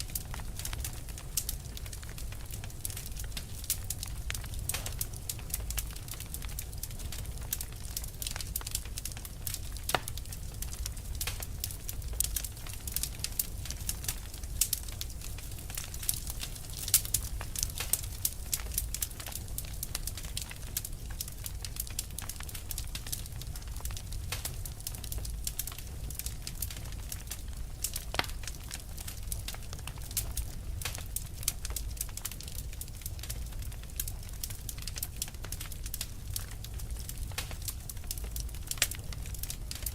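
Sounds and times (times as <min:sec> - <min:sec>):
fire crackling and popping: 0:00.0 - 0:39.9
fire low rumble: 0:00.0 - 0:39.9.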